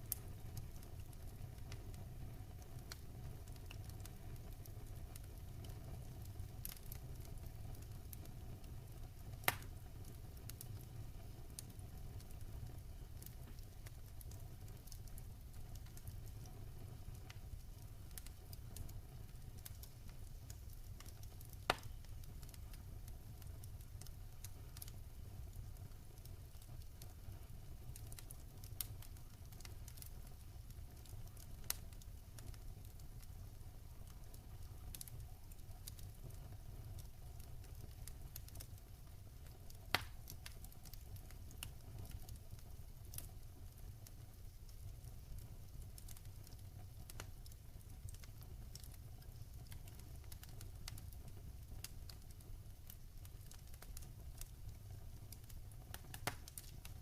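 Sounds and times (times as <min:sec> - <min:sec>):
loud snaps of fire: 0:00.0 - 0:57.0
wood fire crackling: 0:00.0 - 0:57.0.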